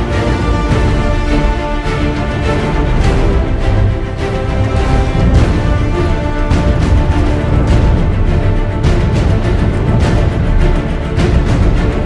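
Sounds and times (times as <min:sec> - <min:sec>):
music with sustained tones and bass: 0:00.0 - 0:12.0.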